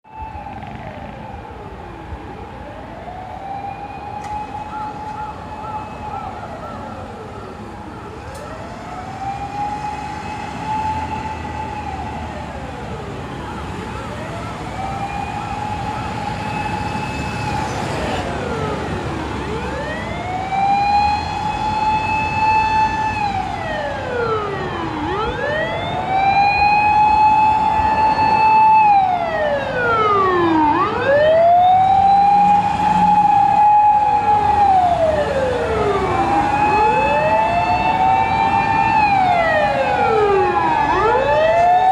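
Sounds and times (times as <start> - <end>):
electronic sirens wailing: 0.1 - 41.9.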